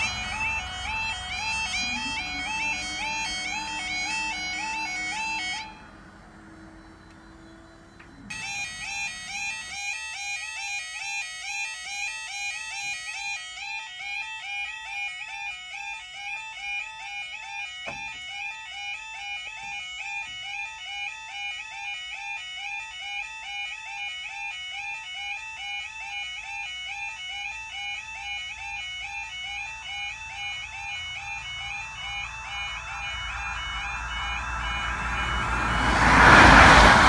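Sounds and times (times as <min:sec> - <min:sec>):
level crossing alarm warbling: 0:00.0 - 0:37.0.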